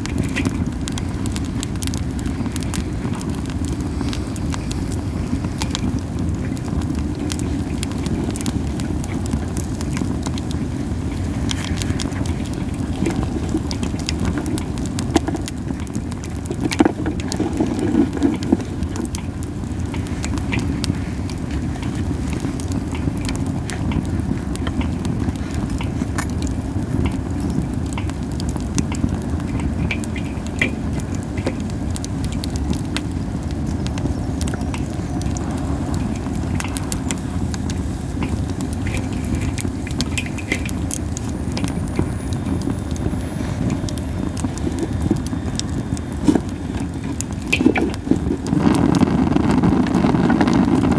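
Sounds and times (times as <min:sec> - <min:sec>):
campfire crackling: 0:00.0 - 0:50.9
low fire rumble: 0:00.0 - 0:50.9
sharp pops and snaps: 0:00.0 - 0:50.9.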